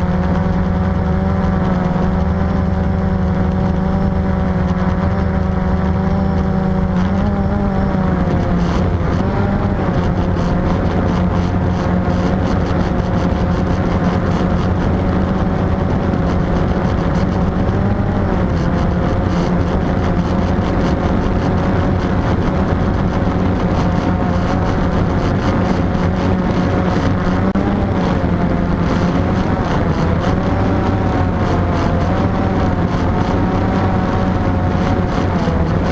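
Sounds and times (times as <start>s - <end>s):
drone propellers buzzing: 0.0s - 35.9s.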